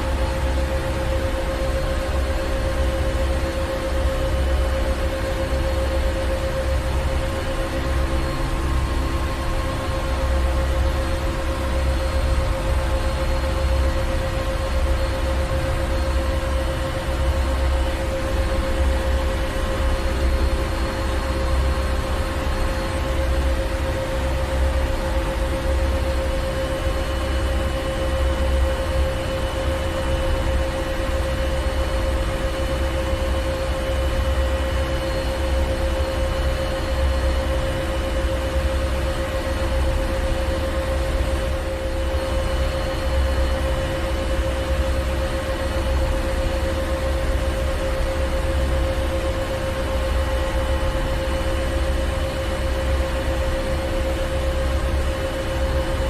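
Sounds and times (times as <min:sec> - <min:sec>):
droning machinery hum: 0:00.0 - 0:56.0.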